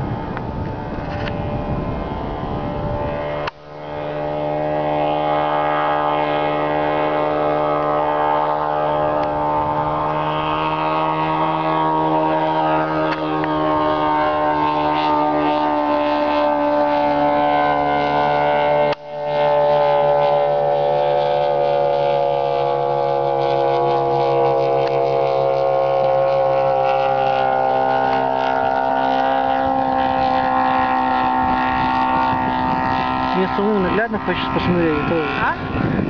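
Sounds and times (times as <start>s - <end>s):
light aircraft droning overhead: 0.0s - 36.0s.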